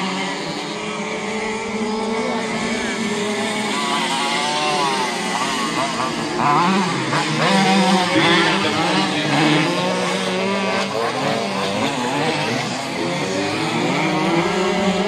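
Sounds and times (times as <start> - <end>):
two-stroke moped engines revving: 0.0 - 15.0.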